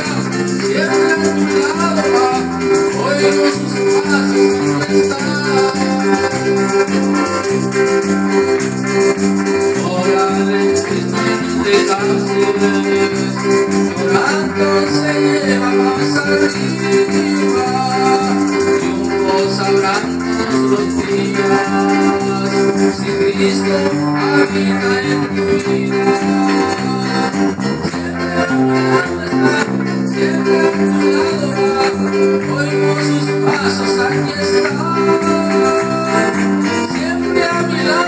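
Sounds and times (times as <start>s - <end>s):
electric guitar: 0.0s - 38.0s
man singing into a microphone: 0.0s - 38.0s.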